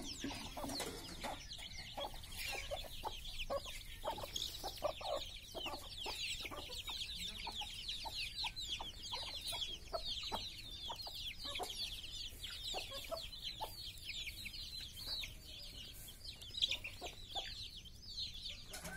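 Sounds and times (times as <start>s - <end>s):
chickens clucking: 0.0s - 18.9s
chicks peeping: 0.0s - 18.9s.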